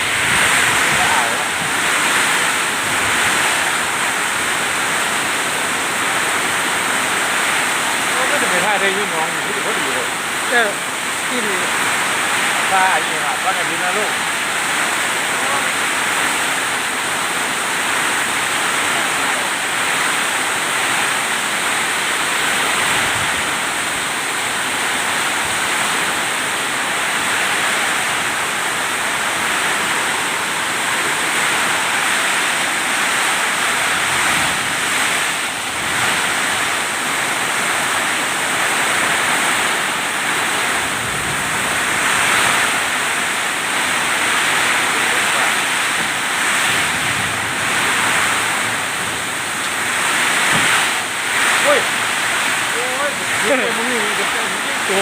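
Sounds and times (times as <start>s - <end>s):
heavy rain and wind: 0.0s - 55.0s.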